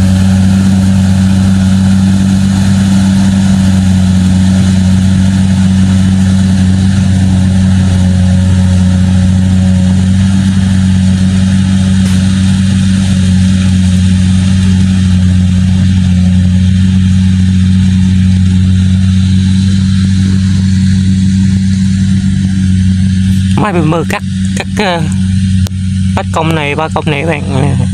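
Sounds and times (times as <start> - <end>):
combine harvester diesel engine: 0.0 - 27.9
machinery rattling and whirring: 0.0 - 27.9.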